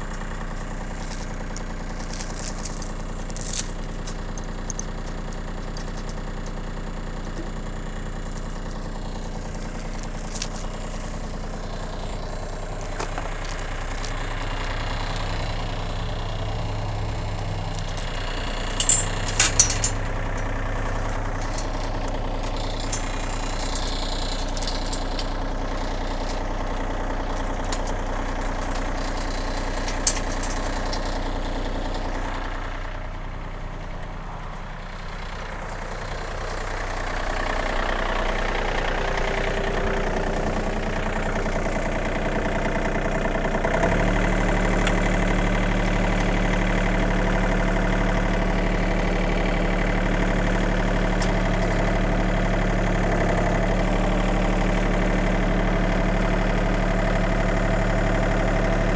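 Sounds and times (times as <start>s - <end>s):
diesel tractor engine idling: 0.0s - 58.9s.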